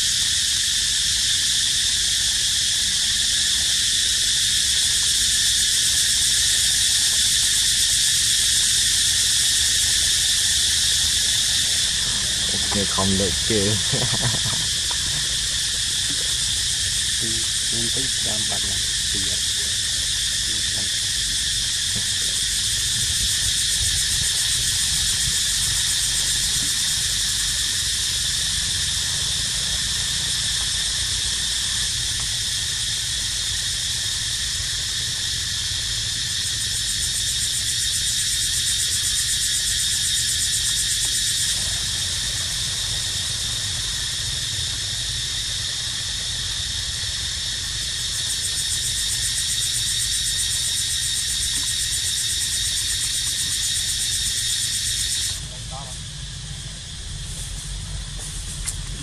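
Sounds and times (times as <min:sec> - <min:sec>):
cicadas singing: 0:00.0 - 0:59.0.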